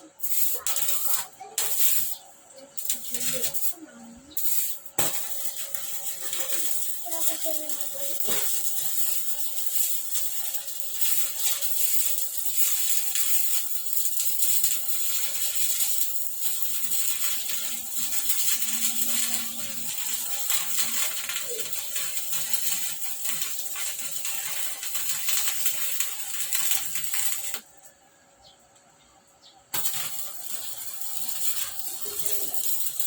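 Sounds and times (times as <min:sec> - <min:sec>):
welding arc crackling: 0:00.0 - 0:28.0, 0:29.7 - 0:33.0.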